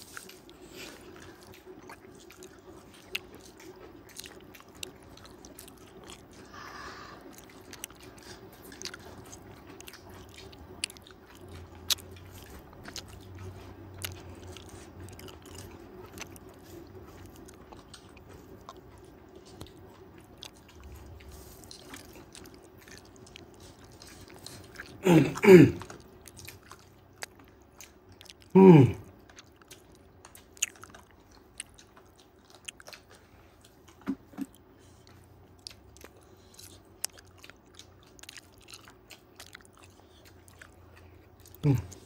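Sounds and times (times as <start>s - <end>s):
chewing with wet mouth clicks: 0.0s - 42.0s
faint steady hum: 0.0s - 42.0s.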